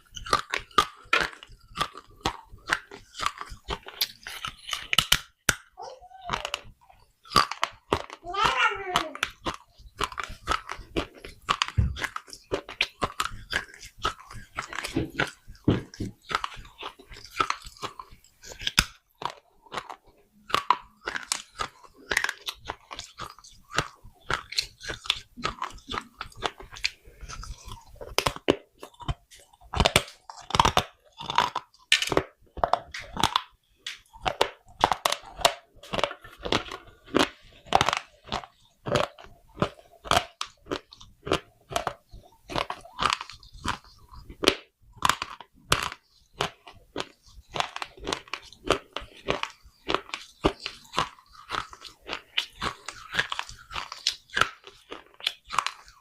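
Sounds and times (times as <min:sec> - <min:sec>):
clay pots being chewed: 0:00.0 - 0:56.0.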